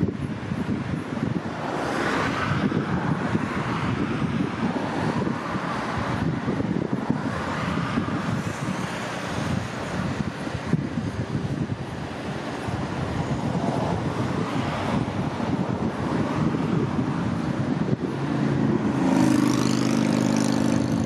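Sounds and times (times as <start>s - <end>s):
cars passing on highway: 0.0s - 21.0s
wind buffeting microphone: 0.0s - 21.0s.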